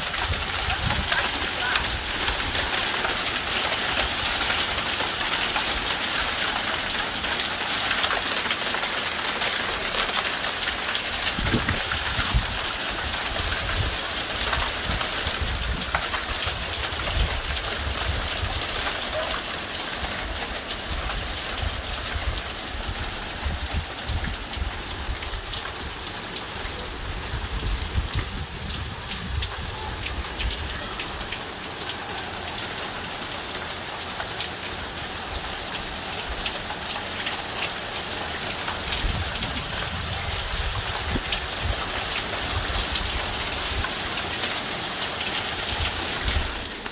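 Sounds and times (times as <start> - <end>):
hail and rain pelting down: 0.0 - 46.9
hailstones ticking on hard surfaces: 0.0 - 46.9.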